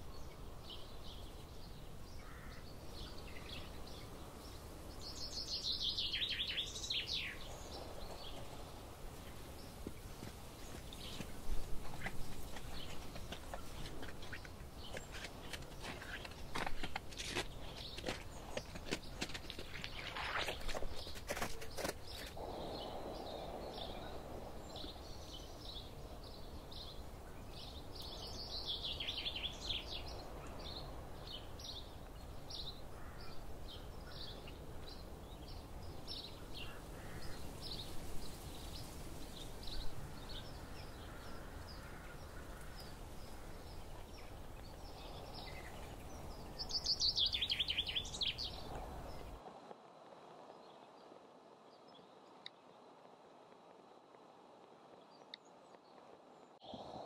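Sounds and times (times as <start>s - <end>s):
small songbirds chirping: 0.0s - 49.5s.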